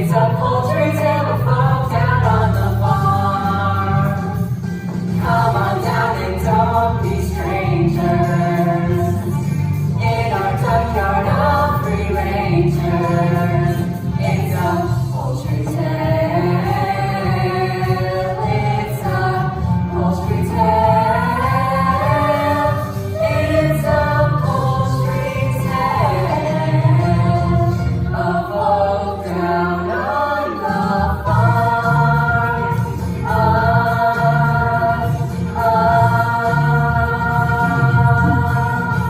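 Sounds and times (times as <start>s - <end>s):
choir singing held notes: 0.0s - 39.0s.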